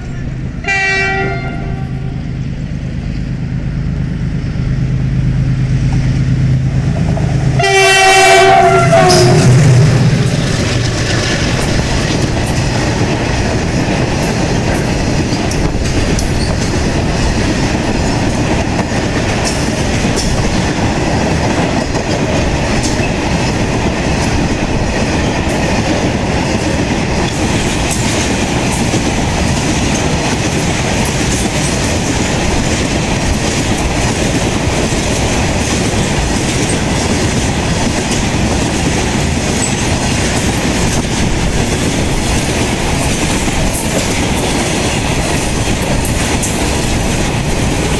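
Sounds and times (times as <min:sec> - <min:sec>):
train wheels clattering over rail joints: 0:06.8 - 0:47.9.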